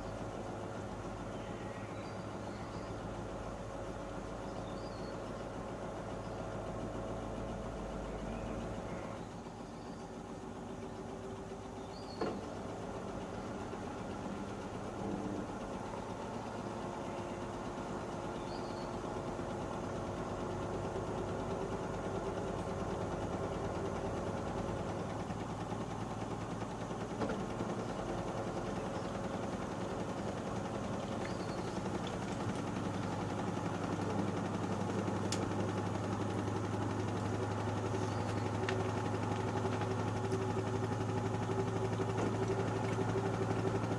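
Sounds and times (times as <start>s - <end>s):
washing machine motor hum: 0.0s - 43.9s.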